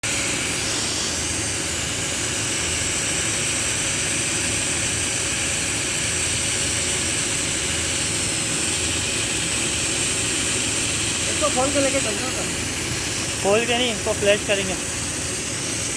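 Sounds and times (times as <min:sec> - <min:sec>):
gas hissing through pipes: 0:00.0 - 0:15.9.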